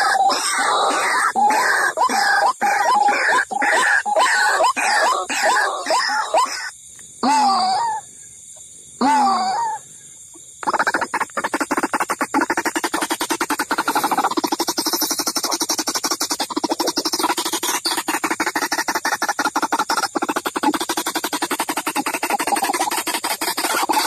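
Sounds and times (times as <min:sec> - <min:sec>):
waterhen calls: 0:00.0 - 0:06.7, 0:10.6 - 0:24.0.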